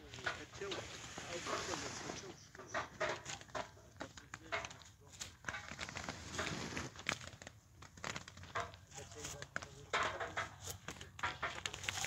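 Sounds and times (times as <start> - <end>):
leaves and twigs rustling: 0.0 - 12.0.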